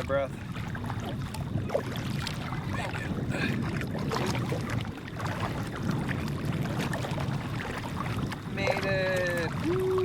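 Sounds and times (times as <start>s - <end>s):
kayak paddle strokes: 0.0s - 10.0s
water slapping against hull: 0.0s - 10.0s
wind rumble: 0.0s - 10.0s.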